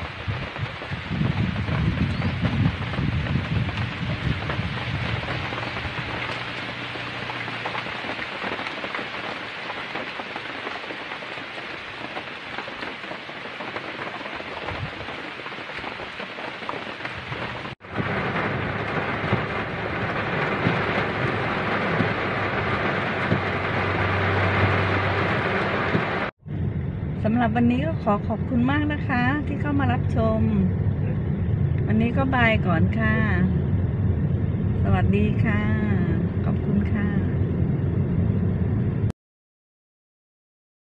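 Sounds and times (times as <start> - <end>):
heavy rain pouring: 0.0 - 26.3, 27.1 - 39.1.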